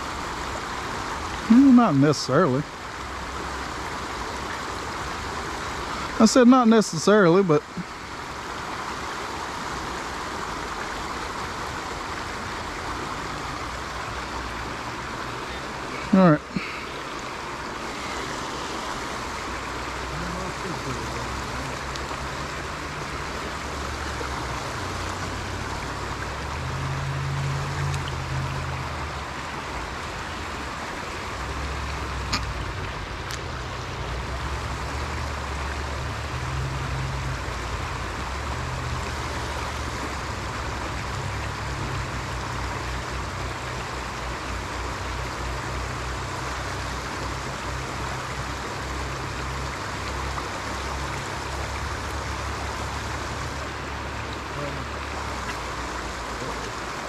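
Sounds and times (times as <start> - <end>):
water rushing over pond edge: 0.0 - 57.0.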